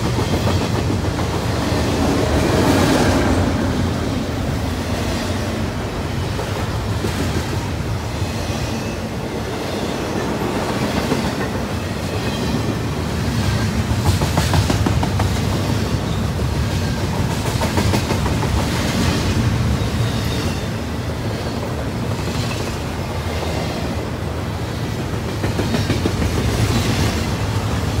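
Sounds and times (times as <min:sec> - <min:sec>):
steel wheels rumbling on rail: 0:00.0 - 0:28.0.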